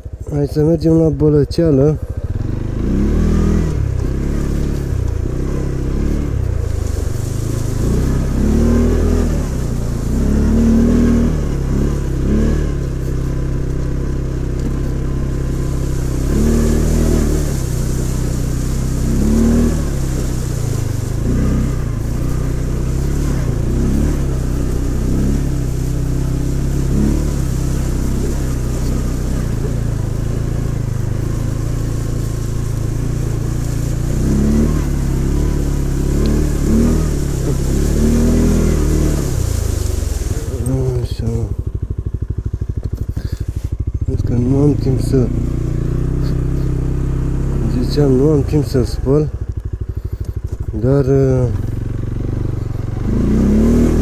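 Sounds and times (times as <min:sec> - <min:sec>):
atv engine running: 0:00.0 - 0:54.0
water splashing under wheels: 0:00.0 - 0:54.0.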